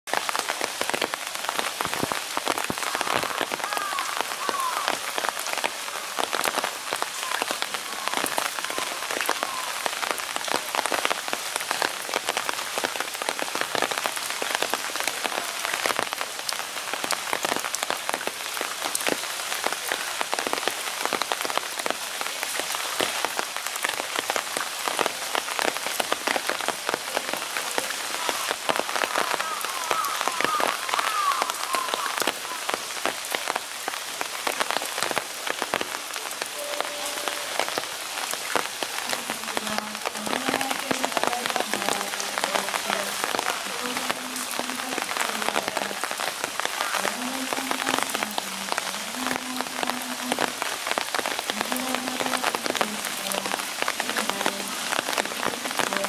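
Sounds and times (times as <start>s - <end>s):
rain falling: 0.0s - 56.0s
raindrops ticking close: 0.1s - 56.0s.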